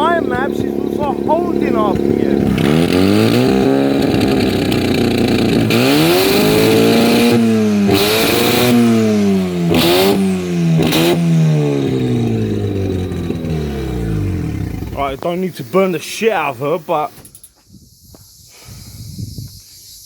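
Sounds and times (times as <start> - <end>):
rotary engine revving: 0.0 - 17.4.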